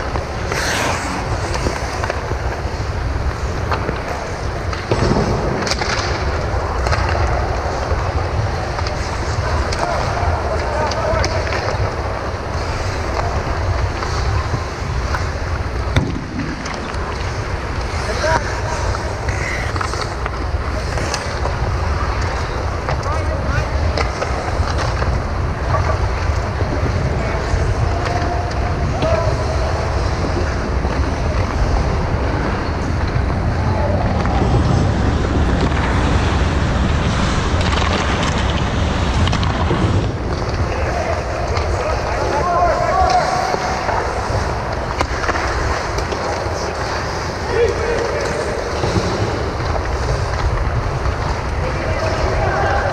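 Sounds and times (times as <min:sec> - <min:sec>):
rumble and hiss of ice rink: 0:00.0 - 0:52.9.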